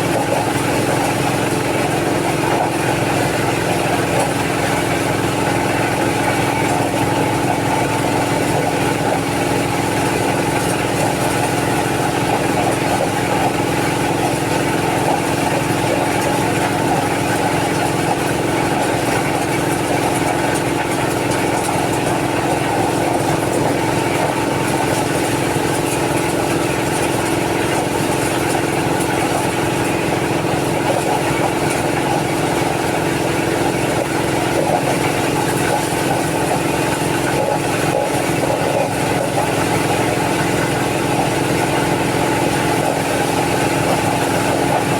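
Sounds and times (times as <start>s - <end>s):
engine-driven machine running: 0.0s - 44.9s.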